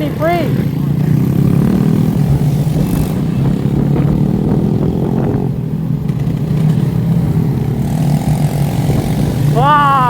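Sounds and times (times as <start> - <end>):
motorbike engines rumbling: 0.0 - 10.0.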